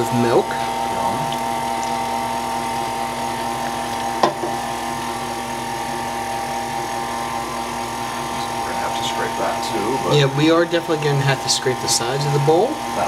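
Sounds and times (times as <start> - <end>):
electric stand mixer running: 0.0 - 13.0.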